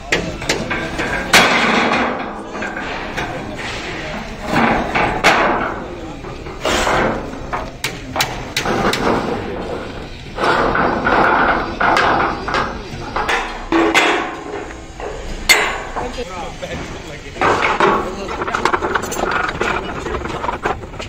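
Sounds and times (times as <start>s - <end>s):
metal knocks and clanks: 0.0s - 21.0s.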